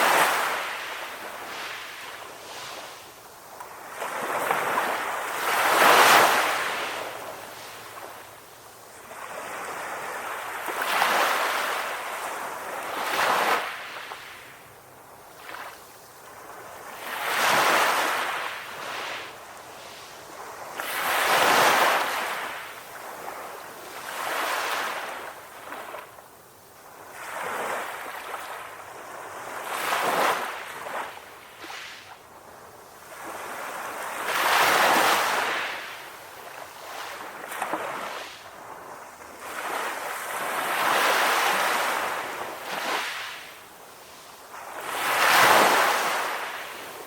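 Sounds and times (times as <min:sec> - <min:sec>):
sea waves breaking on a beach: 0:00.0 - 0:47.0.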